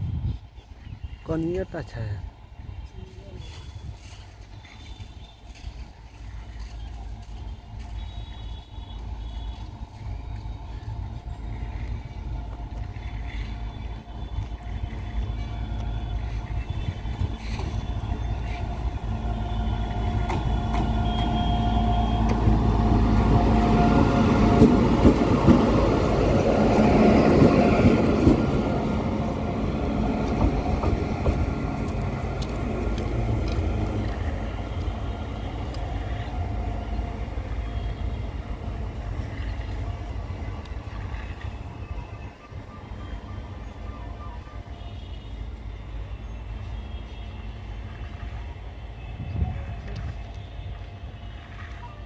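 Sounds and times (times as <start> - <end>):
electric locomotive passing: 0.0 - 52.0.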